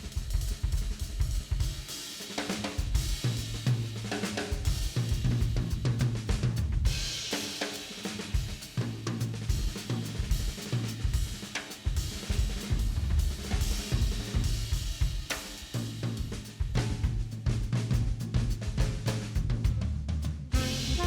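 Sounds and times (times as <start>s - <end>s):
drum-driven background music: 0.0s - 21.0s.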